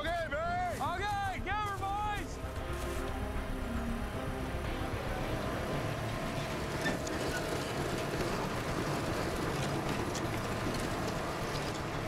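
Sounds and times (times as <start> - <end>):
diesel engines rumbling under load: 0.0 - 12.0.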